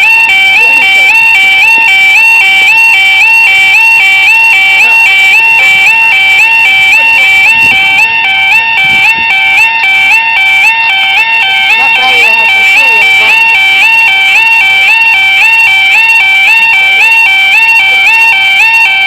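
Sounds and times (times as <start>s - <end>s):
level crossing two-tone alarm: 0.0s - 19.0s.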